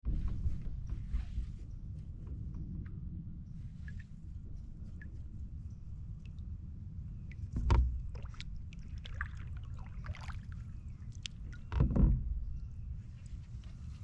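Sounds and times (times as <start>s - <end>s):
boat low rumble: 0.0s - 14.0s.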